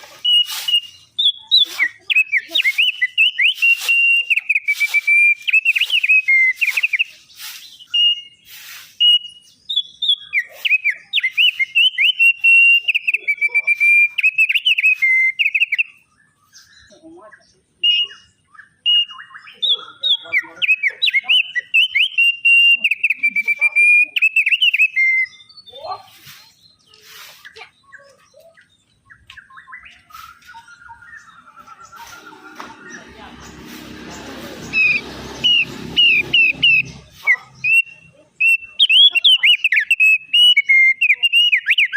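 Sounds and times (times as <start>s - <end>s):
songbird whistling and trilling: 0.0s - 33.1s, 34.6s - 41.9s.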